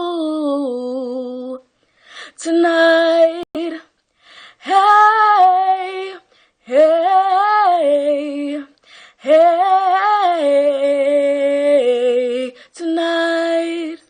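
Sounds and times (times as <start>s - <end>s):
girl singing unaccompanied: 0.0s - 1.7s, 2.3s - 4.0s, 4.6s - 14.0s.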